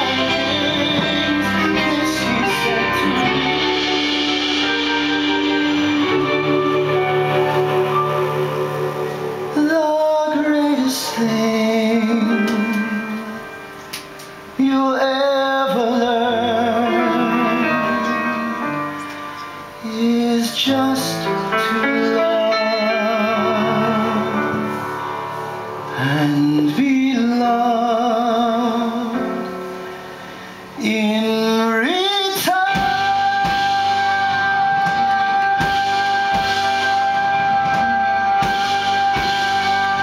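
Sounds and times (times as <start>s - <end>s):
person singing with vibrato: 0.0s - 13.8s, 14.4s - 40.0s
instrumental accompaniment: 0.0s - 40.0s.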